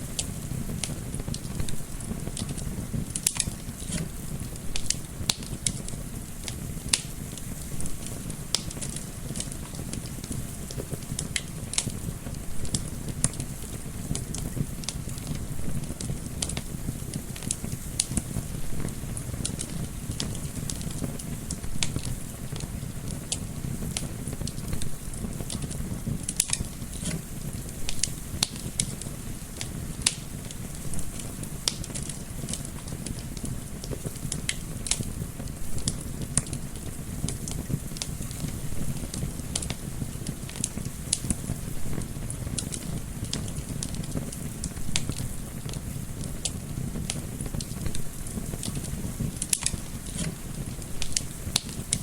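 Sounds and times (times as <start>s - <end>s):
low rumble of flames: 0.0s - 52.0s
soft windy hiss: 0.0s - 52.0s
wood fire crackling and popping: 0.0s - 52.0s.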